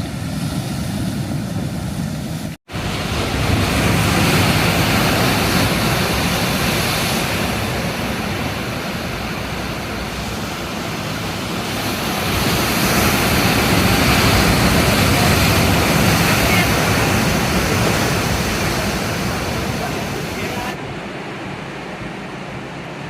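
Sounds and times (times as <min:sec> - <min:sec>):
sea surf breaking: 0:00.0 - 0:23.0.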